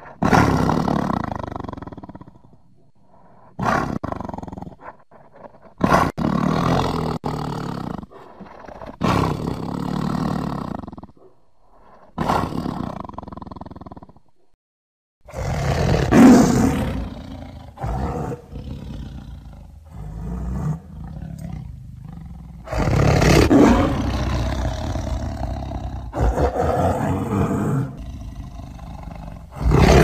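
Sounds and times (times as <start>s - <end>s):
big cat roars: 0.0s - 2.7s, 3.6s - 14.2s, 15.3s - 30.0s.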